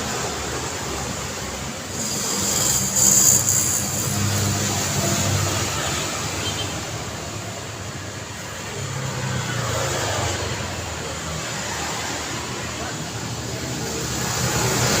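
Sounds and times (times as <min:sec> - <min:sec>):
passing vehicles hissing: 0:00.0 - 0:15.0.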